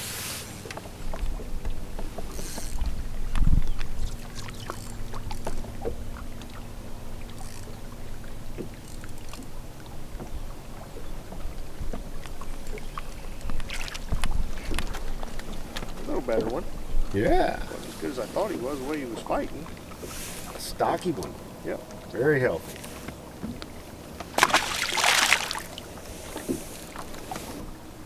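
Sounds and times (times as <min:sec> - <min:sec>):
rumble of wind and water: 0:00.0 - 0:28.0.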